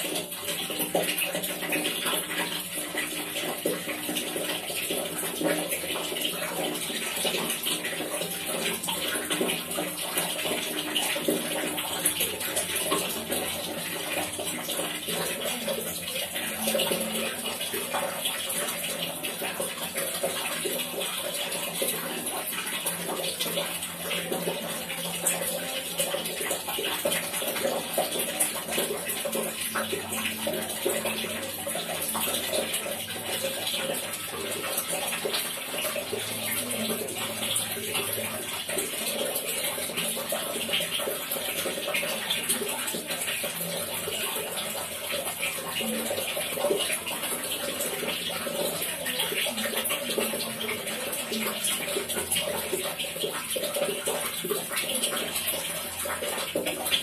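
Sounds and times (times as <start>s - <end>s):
water dripping and splashing: 0.0s - 57.0s.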